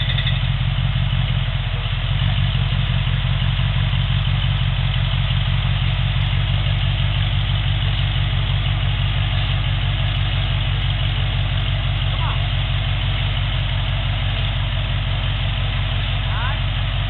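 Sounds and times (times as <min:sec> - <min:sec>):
buggy engine idling: 0:00.0 - 0:17.0.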